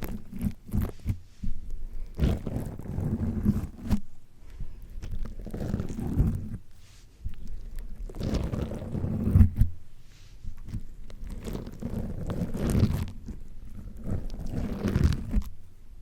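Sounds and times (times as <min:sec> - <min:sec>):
slime squishing against microphone: 0:00.0 - 0:09.7, 0:10.3 - 0:15.6.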